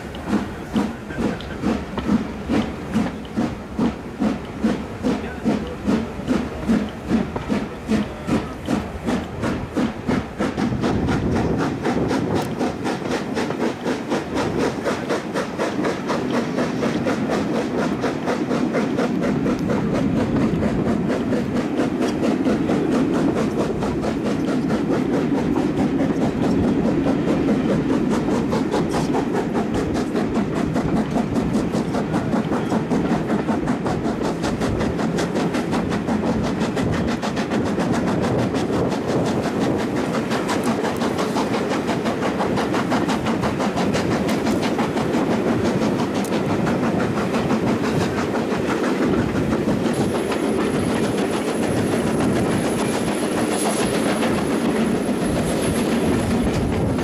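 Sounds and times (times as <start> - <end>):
carriages rattling on rails: 0.0 - 57.0
steam locomotive exhaust chuffs: 0.0 - 57.0.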